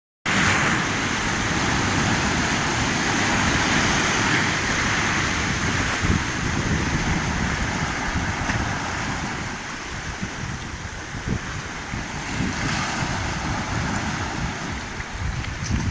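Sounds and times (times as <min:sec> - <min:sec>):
surf breaking and washing in: 0:00.3 - 0:15.9
wind buffeting microphone: 0:00.4 - 0:15.9.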